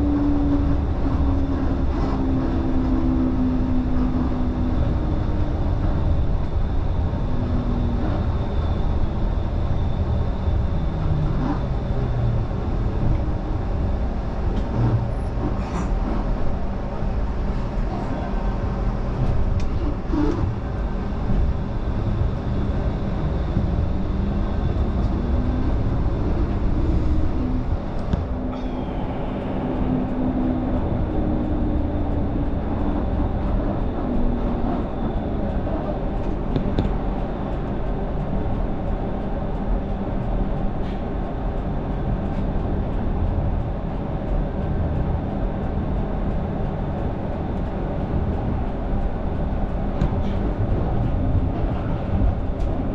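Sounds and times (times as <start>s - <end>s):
tram rumbling with motor hum: 0.0s - 52.9s.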